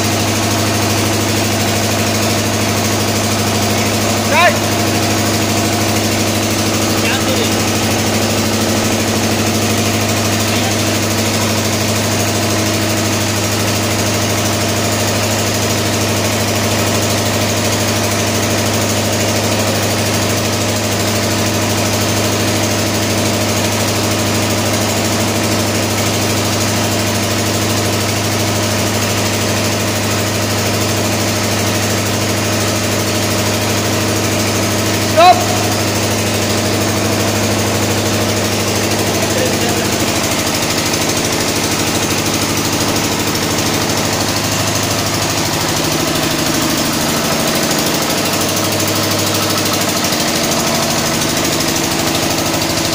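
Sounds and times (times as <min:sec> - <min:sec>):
diesel engine running steadily: 0:00.0 - 0:52.9.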